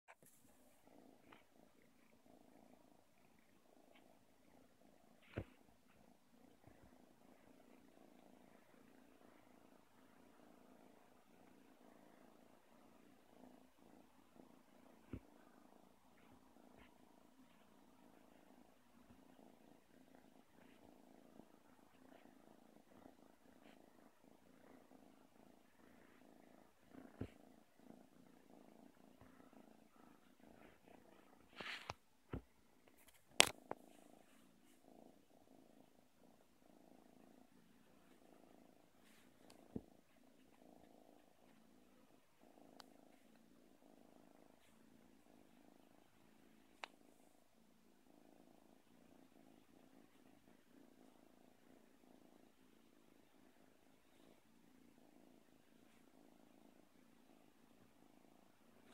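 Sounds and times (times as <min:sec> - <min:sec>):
kitten purring: 0:00.0 - 0:58.9.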